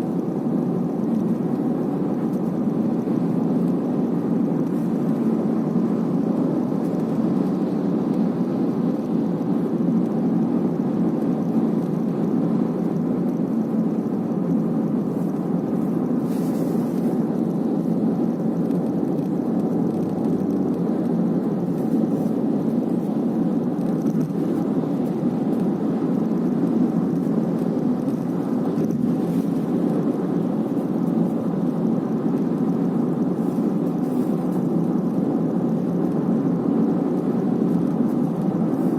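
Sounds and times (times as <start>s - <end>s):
car road and running noise: 0.0s - 38.9s.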